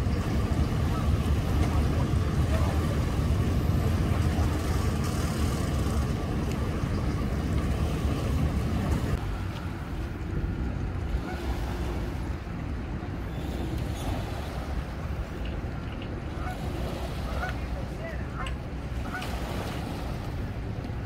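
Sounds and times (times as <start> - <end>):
idling engines rumble: 0.0 - 21.0
water along shore: 0.0 - 21.0.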